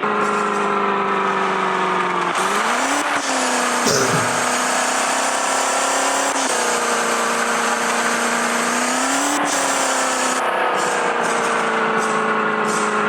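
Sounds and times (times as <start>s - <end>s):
van engine at high revs: 0.8s - 11.3s.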